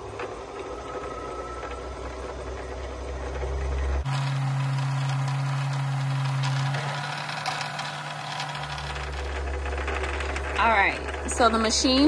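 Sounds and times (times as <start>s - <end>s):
sewing machine motor humming: 0.0s - 12.0s.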